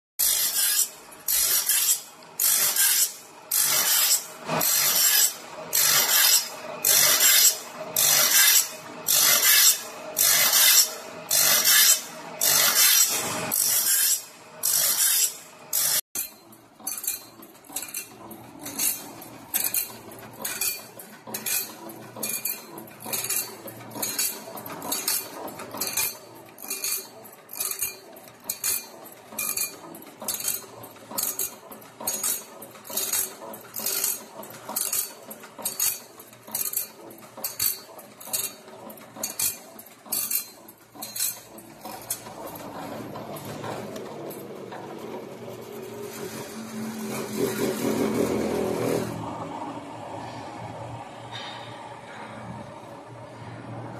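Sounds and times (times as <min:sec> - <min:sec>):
grinding wheel rasping on saw teeth: 0:00.2 - 0:49.5.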